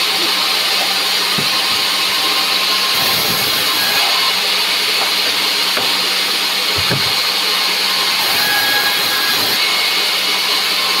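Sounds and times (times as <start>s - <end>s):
band saw running: 0.0s - 11.0s.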